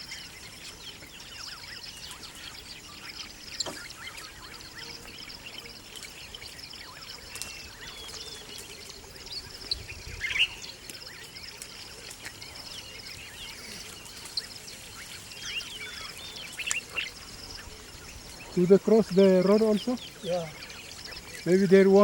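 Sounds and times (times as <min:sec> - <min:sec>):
birds chirping and whistling: 0:00.0 - 0:22.0
outdoor ambient hiss: 0:00.0 - 0:22.0.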